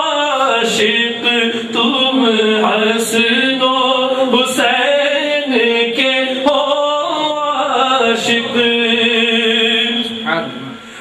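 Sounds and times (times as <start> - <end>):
man singing devotional song: 0.0 - 10.4.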